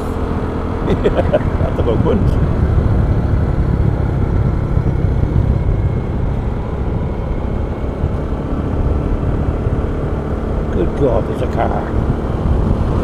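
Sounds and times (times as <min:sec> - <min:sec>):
vehicle rumbling on road: 0:00.0 - 0:13.0.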